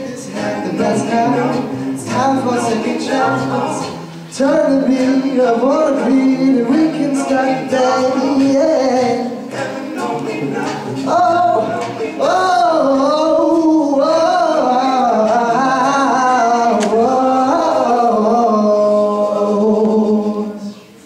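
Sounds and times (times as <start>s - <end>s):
solo male voice singing melody: 0.0s - 20.9s
male a cappella group singing: 0.0s - 21.0s.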